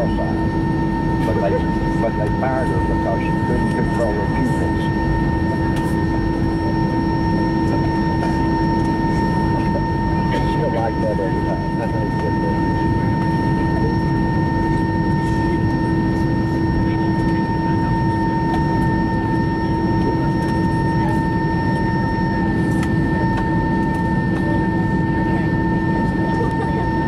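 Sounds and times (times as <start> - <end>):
aircraft cabin rumble: 0.0 - 27.0
jet engine whine: 0.0 - 27.0.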